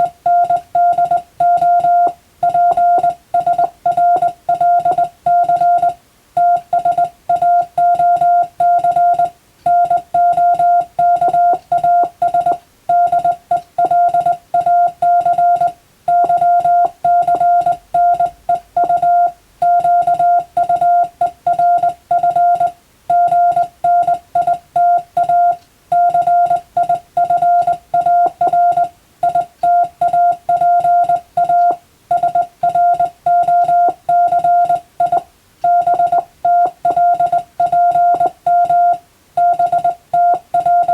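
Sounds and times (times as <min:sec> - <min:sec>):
morse code tone: 0:00.0 - 0:40.9.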